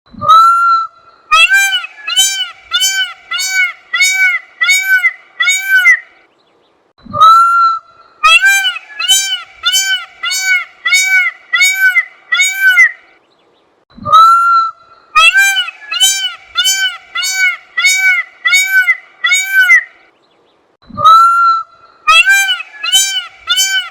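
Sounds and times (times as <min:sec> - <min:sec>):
peacock calling: 0:00.2 - 0:06.3, 0:07.1 - 0:13.2, 0:14.0 - 0:20.2, 0:21.0 - 0:23.9.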